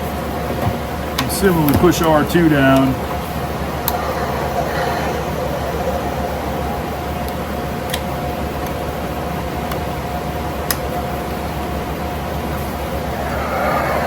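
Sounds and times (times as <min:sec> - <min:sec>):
room fans humming: 0:00.0 - 0:14.0.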